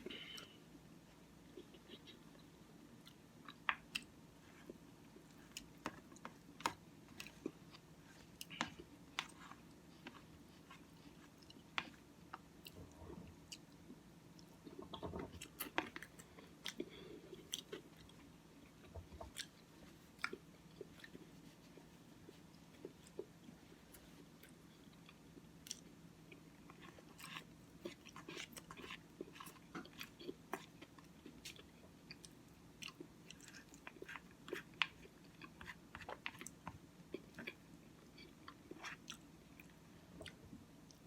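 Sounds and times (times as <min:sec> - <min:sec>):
chewing cereal: 0:01.5 - 0:41.0.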